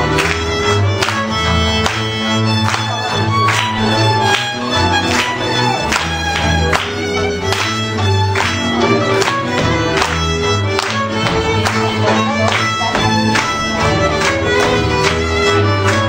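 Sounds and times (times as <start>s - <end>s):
folk dance music with fiddle: 0.0s - 16.0s.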